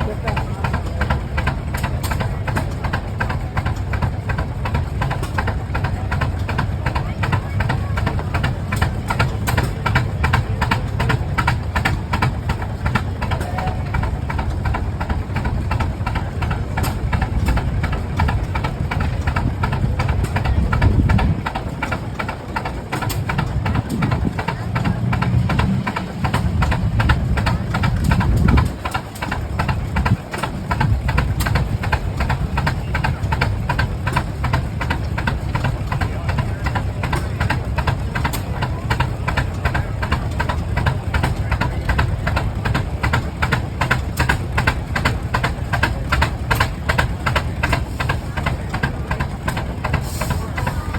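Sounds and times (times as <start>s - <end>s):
tractor engines exhaust beat: 0.0s - 50.9s.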